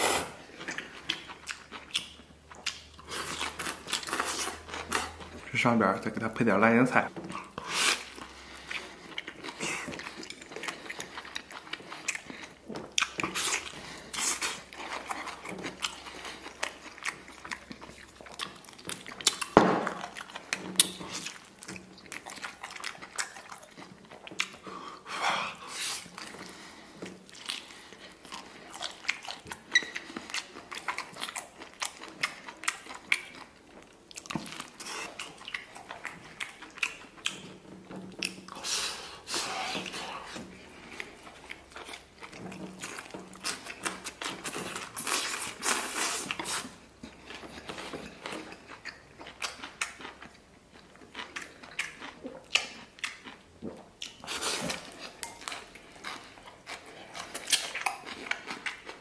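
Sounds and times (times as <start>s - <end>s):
chewing and biting meat: 0.0s - 5.6s, 7.2s - 59.0s.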